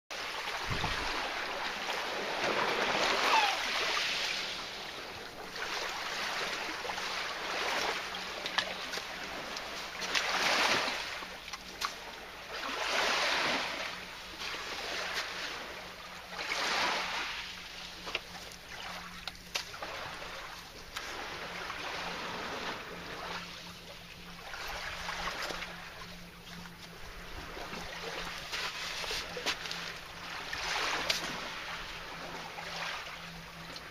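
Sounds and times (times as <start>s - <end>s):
sea waves washing on shore: 0.1s - 33.9s
steady low hum: 3.7s - 33.9s.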